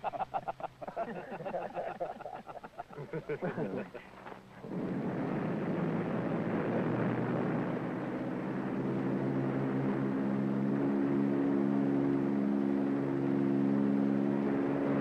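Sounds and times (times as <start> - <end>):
aircraft radial engines droning: 0.0 - 15.0.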